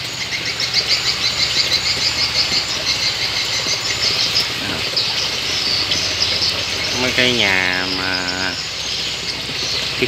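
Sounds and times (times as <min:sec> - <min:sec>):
small birds trilling: 0:00.0 - 0:10.0.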